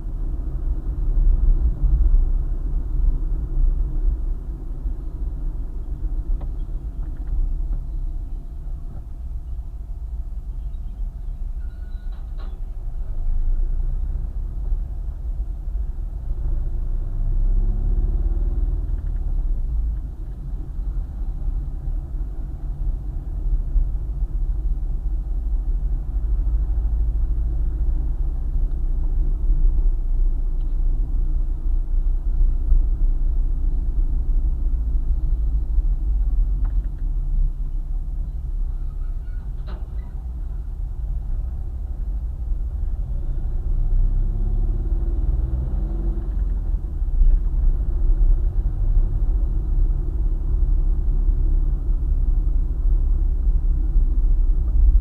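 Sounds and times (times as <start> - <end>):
road and engine rumble: 0.0 - 55.0.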